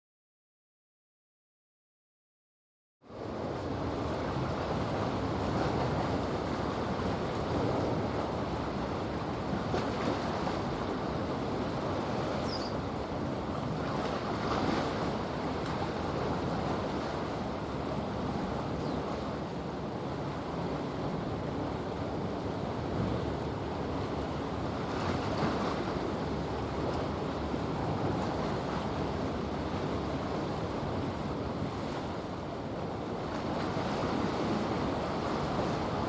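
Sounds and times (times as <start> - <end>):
wind and water: 3.0 - 36.0.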